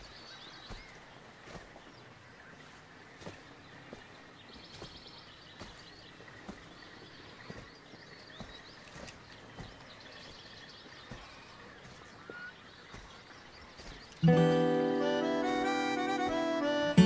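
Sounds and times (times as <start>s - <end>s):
faint outdoor ambience: 0.0s - 17.0s
footsteps on grass: 0.0s - 17.0s
small birds chirping: 0.0s - 17.0s.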